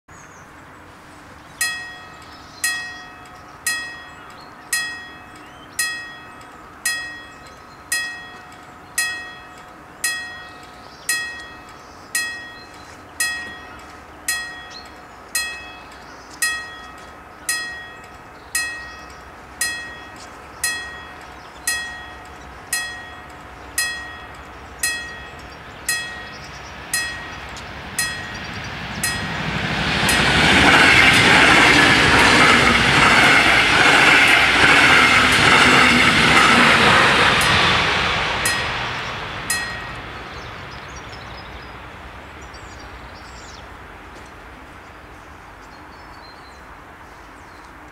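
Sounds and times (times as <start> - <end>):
level crossing warning bell: 1.5 - 40.7.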